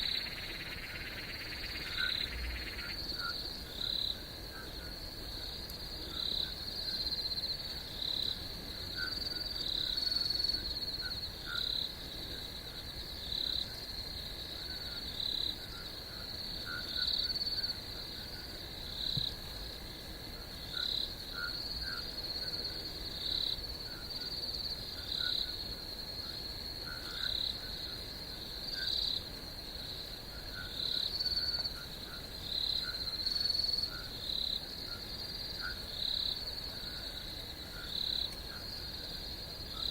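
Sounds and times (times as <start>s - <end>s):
frogs calling: 0.0s - 5.0s, 8.2s - 12.5s, 14.5s - 19.2s, 20.7s - 29.3s, 30.2s - 39.9s
crickets trilling: 0.0s - 39.9s.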